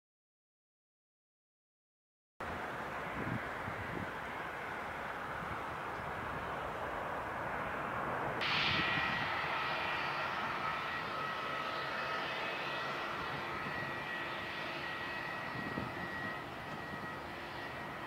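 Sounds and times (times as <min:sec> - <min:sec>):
jet engines whining: 0:02.4 - 0:18.0.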